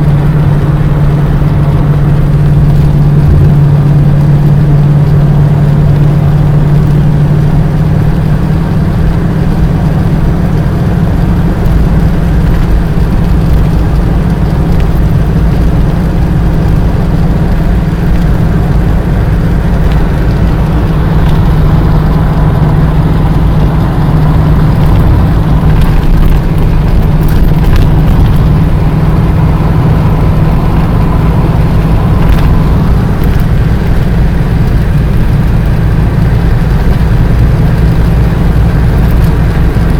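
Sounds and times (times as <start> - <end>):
low rumble: 0.0 - 39.9
vehicle engine running: 0.0 - 39.9.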